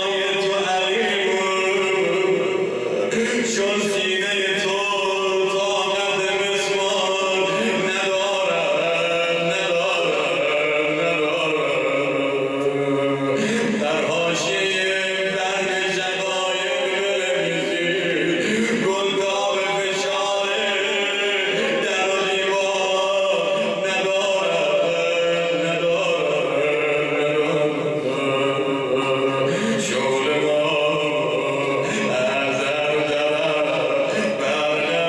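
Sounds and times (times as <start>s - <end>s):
man chanting into microphone: 0.0s - 35.0s.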